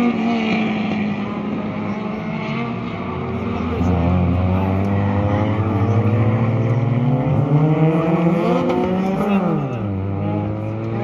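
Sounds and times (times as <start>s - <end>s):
racing car engines accelerating: 0.0s - 11.0s.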